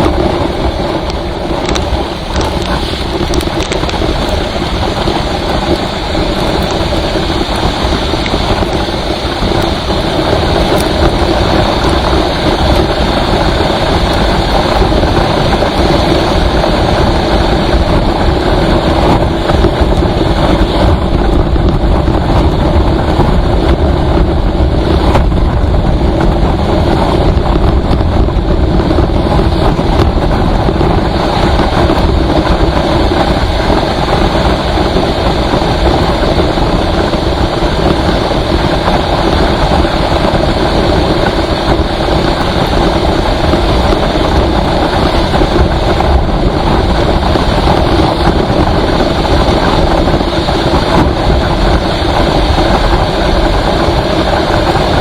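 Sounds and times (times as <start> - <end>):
vehicle road and engine noise: 0.0 - 55.0.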